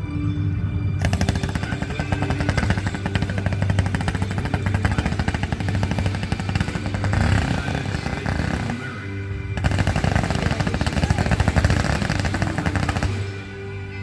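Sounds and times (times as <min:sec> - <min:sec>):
fireworks bangs and crackles: 0:01.0 - 0:14.0.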